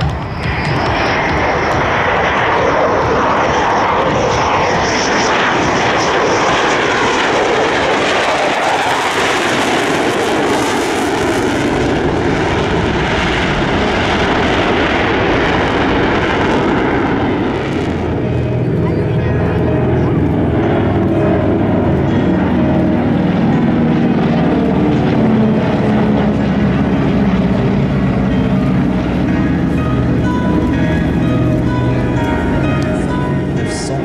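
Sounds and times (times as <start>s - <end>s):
fighter jet engines roaring: 0.0s - 34.0s.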